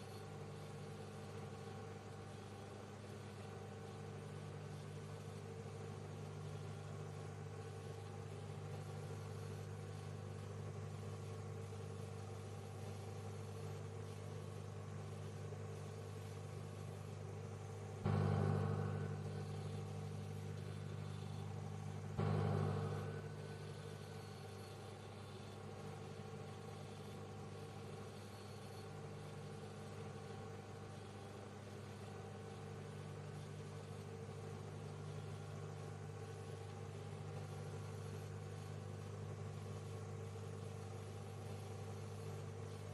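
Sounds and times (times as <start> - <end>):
microwave oven humming: 0.0 - 42.9.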